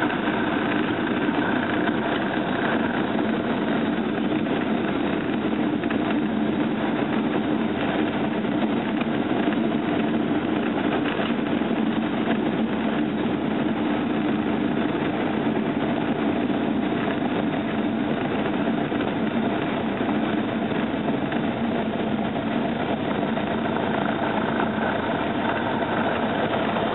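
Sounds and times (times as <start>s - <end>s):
propeller plane engine drone: 0.0s - 26.9s.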